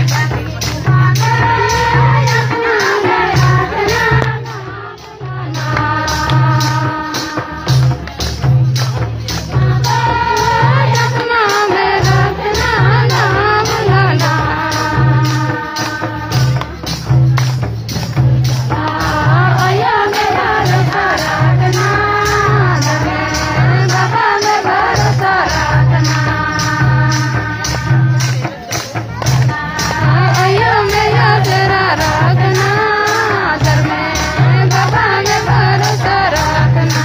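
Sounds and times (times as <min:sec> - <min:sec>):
group singing: 0:00.0 - 0:37.0
jingling percussion: 0:00.0 - 0:37.0
steady drum beat: 0:00.0 - 0:37.0.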